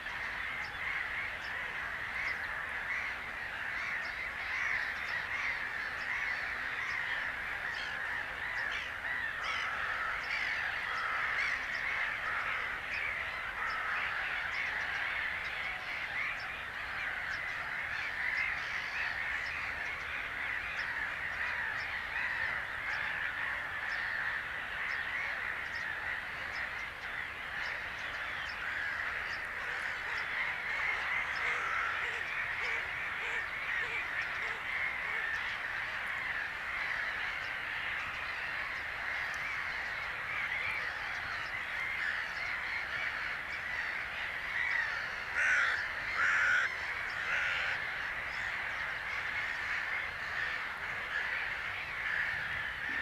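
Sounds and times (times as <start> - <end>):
flock of birds cawing and honking: 0.0 - 53.0.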